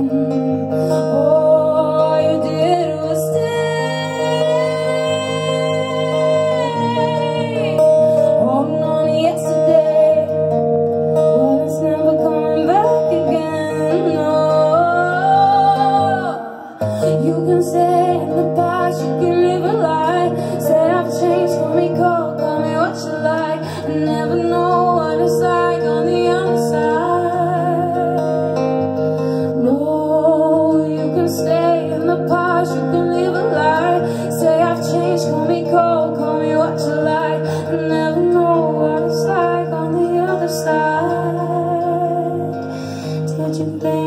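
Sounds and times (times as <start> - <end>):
strummed acoustic guitar: 0.0 - 44.0
woman singing: 0.0 - 44.0.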